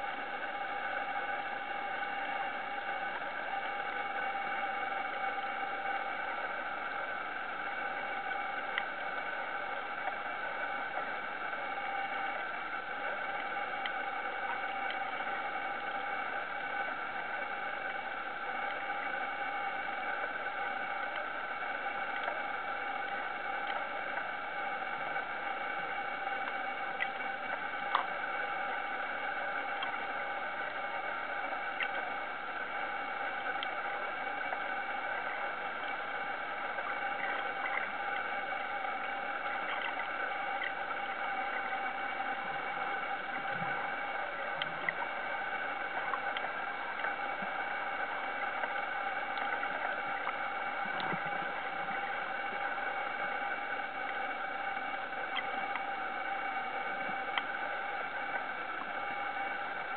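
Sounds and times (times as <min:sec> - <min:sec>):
underwater mechanical whine: 0:00.0 - 0:59.9.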